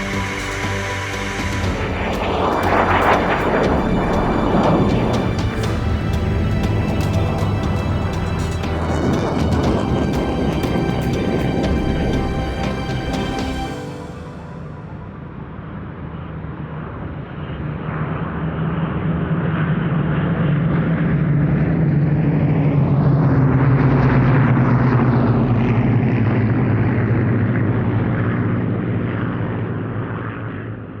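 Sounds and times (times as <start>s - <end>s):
propeller aircraft flying past: 0.0s - 13.7s, 15.7s - 31.0s.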